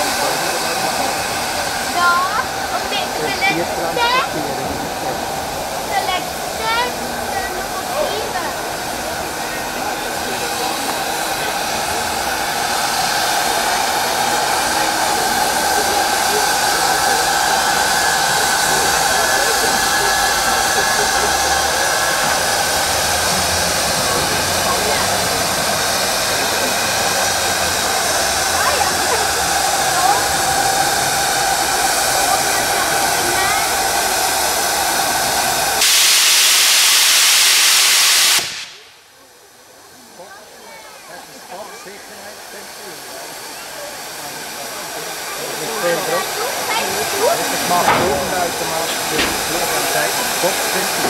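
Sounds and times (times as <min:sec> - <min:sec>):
steam hissing from locomotive boiler: 0:00.0 - 0:51.0.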